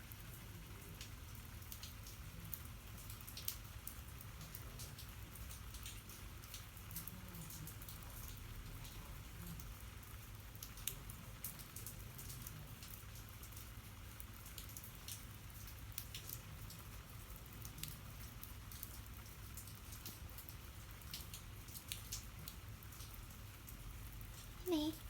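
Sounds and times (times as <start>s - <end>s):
raindrops ticking on hard surface: 0.0s - 25.0s.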